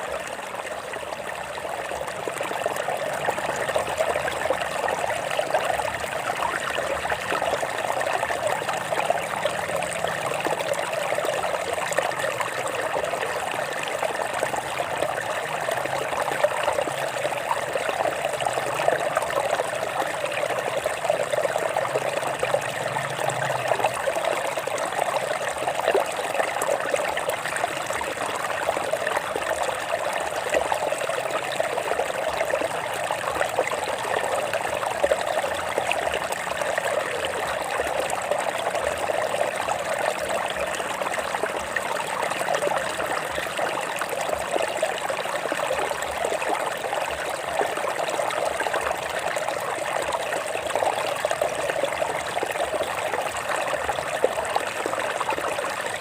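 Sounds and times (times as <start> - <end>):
stream water flowing over rocks: 0.0 - 56.0.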